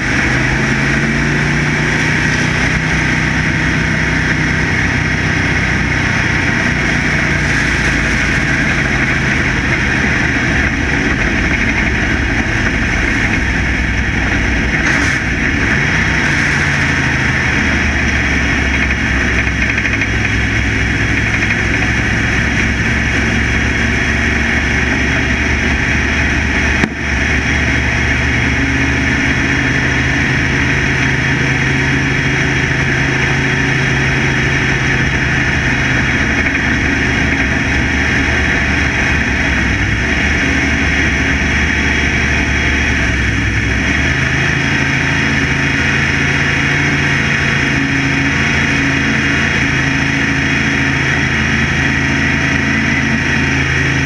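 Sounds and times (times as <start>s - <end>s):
race car engine running loudly: 0.0s - 54.0s
steady rush of noise: 0.0s - 54.0s.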